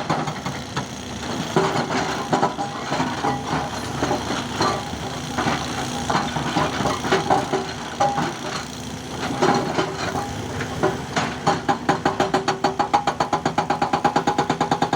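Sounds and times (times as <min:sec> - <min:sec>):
digging machine engine running: 0:00.0 - 0:14.9.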